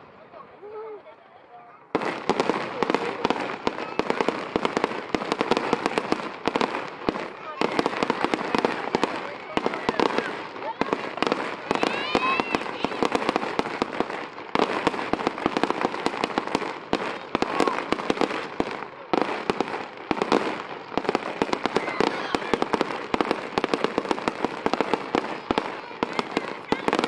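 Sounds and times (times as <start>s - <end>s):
fireworks bangs and crackles: 1.8s - 27.0s.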